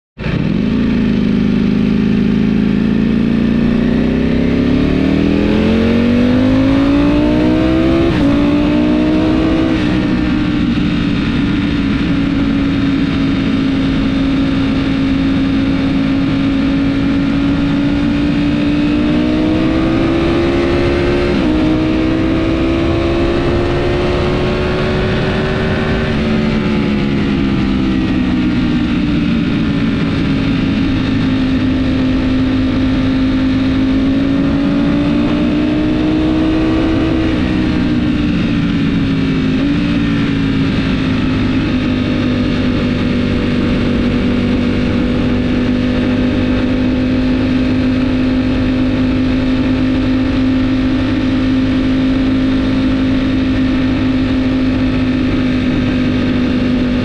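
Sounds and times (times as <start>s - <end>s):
motorcycle engine revving: 0.2s - 57.0s.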